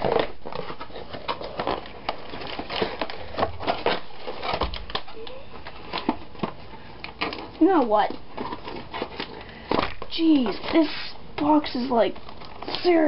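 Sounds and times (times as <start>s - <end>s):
cardboard crackling and scraping: 0.0s - 13.0s.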